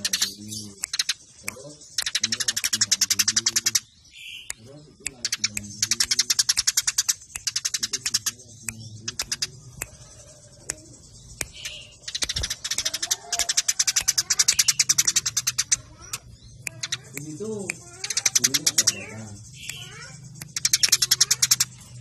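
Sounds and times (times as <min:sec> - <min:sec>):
sparrows chirping rapidly: 0:00.0 - 0:22.0.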